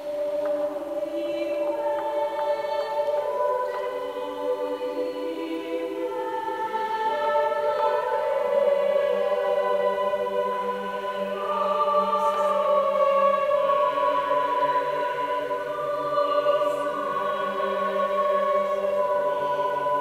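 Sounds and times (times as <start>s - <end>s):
mixed choir singing chords: 0.0s - 20.0s.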